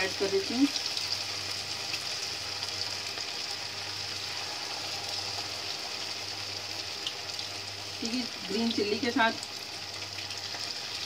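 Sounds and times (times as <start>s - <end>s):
deep-frying sizzle with crackles: 0.0s - 11.0s.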